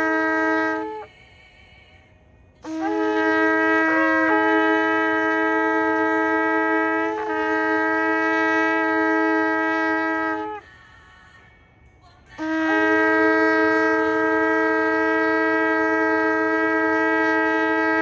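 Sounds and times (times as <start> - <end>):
ram's horn blast: 0.0 - 1.1, 2.6 - 10.6, 12.4 - 18.0.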